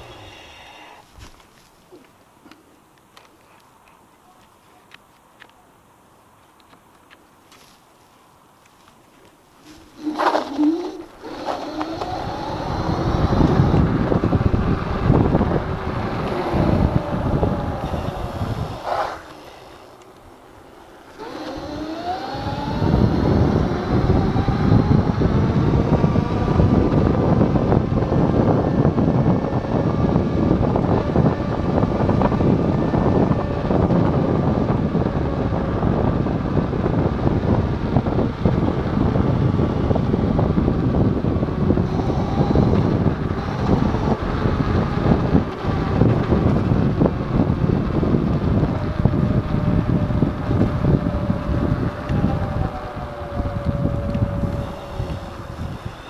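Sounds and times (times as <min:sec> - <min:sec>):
electric scooter motor whining: 0:00.0 - 0:01.2, 0:09.6 - 0:56.0
wind noise on microphone: 0:00.0 - 0:02.6, 0:09.2 - 0:56.0
road rumble: 0:00.0 - 0:56.0.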